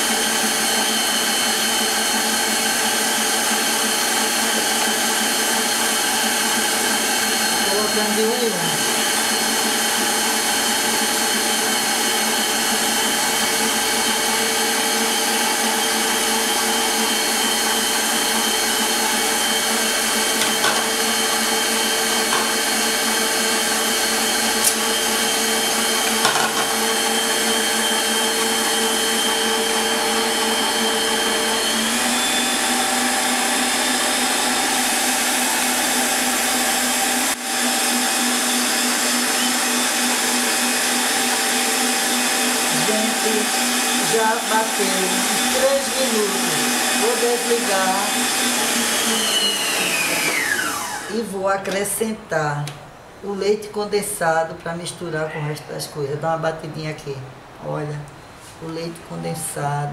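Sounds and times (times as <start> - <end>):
stand mixer whipping batter: 0.0 - 51.2.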